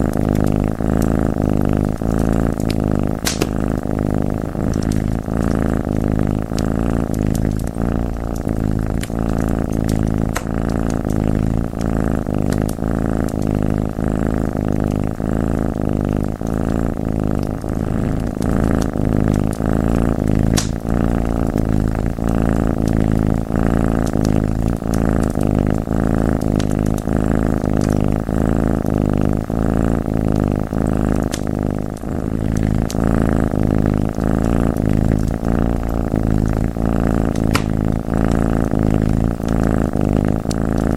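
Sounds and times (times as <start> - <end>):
cat purring: 0.0 - 40.9
wood fire crackling: 1.6 - 12.8, 16.0 - 39.8.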